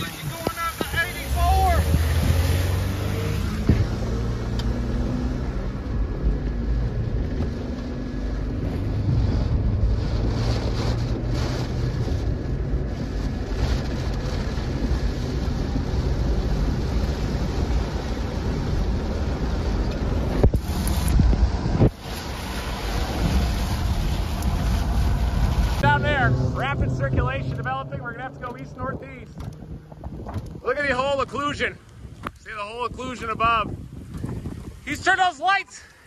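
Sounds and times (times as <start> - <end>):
car interior road noise: 0.0 - 35.6.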